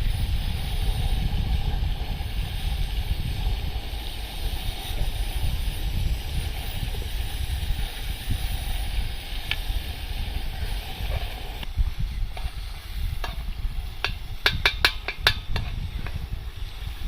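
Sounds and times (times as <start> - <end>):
tomatoes frying in a pan: 0.0 - 17.0
wind rumble on microphone: 0.0 - 17.0.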